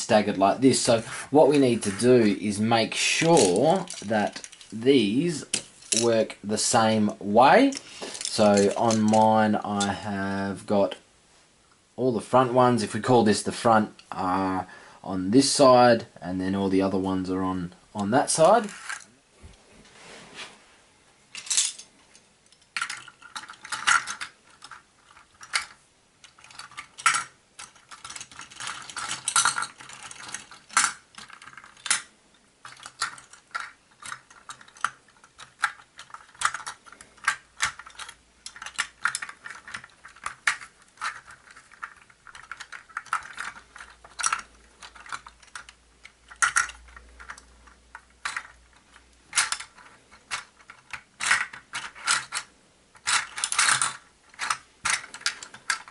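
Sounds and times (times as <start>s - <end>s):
plastic parts clicking and clattering: 0.0s - 6.9s, 7.5s - 10.0s, 18.0s - 19.1s, 21.3s - 55.9s.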